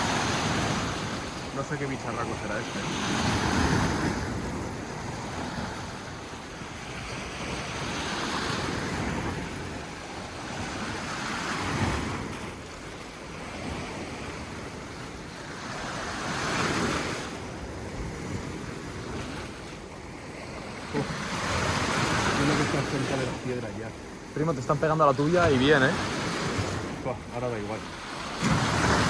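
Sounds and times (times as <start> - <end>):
sea waves washing onto rocks: 0.0 - 29.0.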